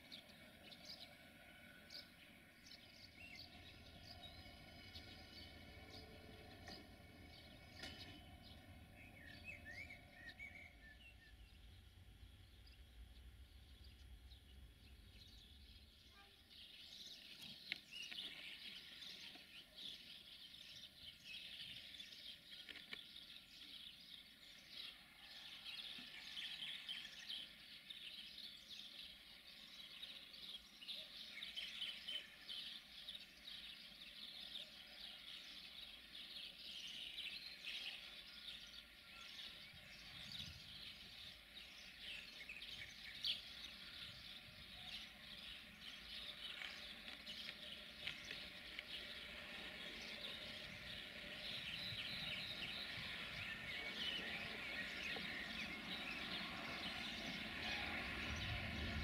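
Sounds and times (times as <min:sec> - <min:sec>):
faint birds chirping: 0:00.0 - 0:59.0.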